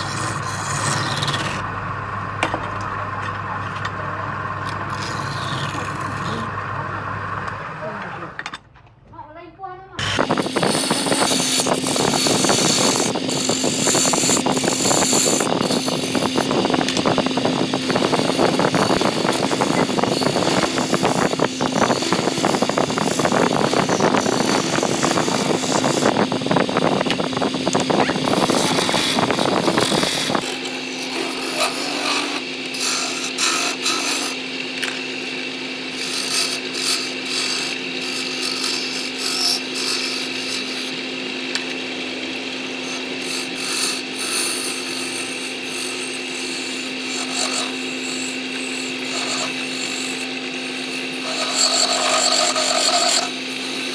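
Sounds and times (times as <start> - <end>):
turning tool scraping wood: 0.0 - 1.7, 4.7 - 6.5, 10.0 - 41.8, 42.6 - 53.9
lathe motor humming: 10.0 - 53.9.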